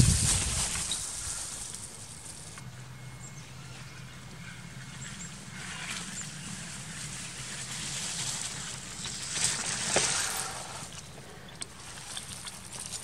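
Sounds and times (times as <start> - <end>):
bike tyres rolling over leaves: 0.0 - 13.0.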